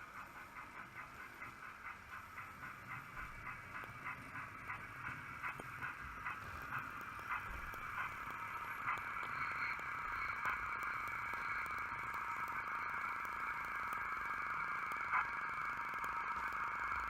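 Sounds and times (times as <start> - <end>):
model steam locomotive chuffs: 0.0 - 17.0.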